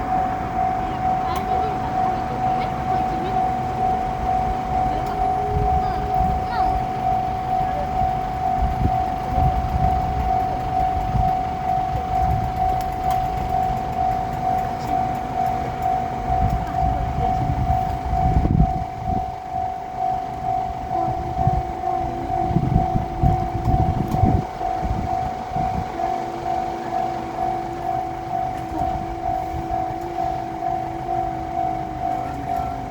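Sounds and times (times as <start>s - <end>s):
diesel railcar rumble: 0.0s - 32.9s
railroad crossing bell ringing: 0.0s - 32.9s.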